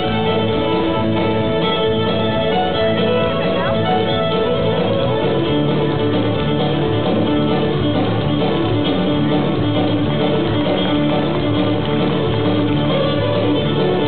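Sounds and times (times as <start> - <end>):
fiddle and guitar jig: 0.0 - 14.0.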